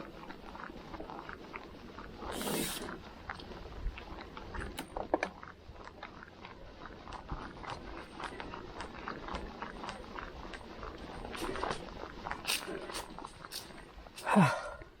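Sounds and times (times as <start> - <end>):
bike rattling over stones: 0.0 - 14.6
low wind rumble: 0.0 - 15.0.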